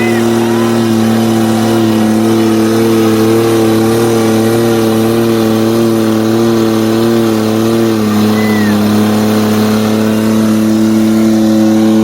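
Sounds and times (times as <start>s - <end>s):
engine at high revs: 0.0s - 12.0s.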